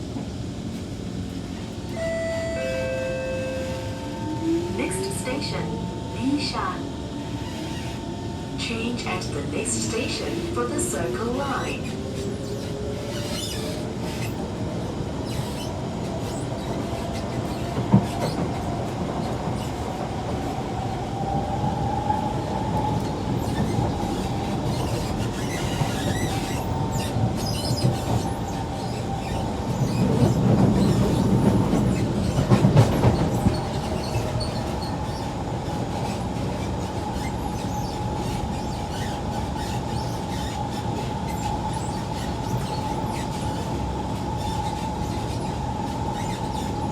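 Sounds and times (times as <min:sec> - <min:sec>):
metro train motor whine: 0:00.0 - 0:46.9.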